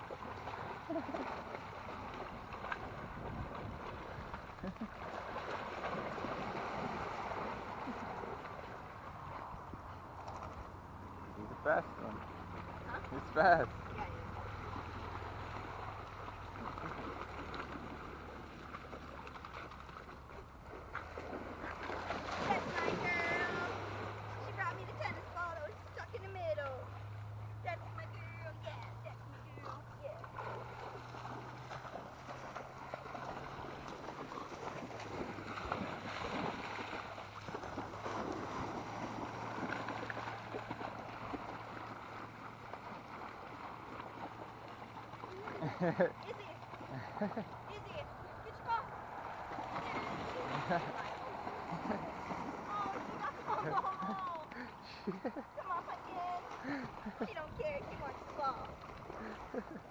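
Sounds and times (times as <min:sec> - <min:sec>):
water sloshing and splashing: 0:00.0 - 0:59.9.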